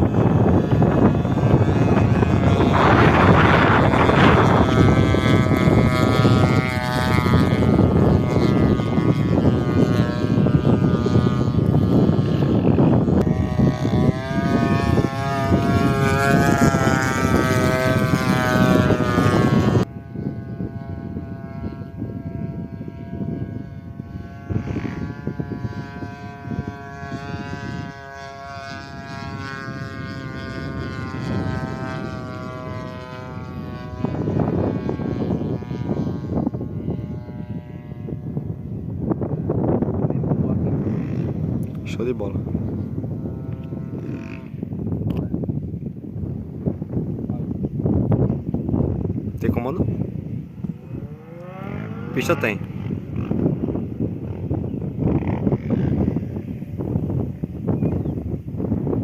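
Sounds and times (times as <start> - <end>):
model plane engine buzzing: 0.0 - 59.0
wind noise on microphone: 0.0 - 59.0.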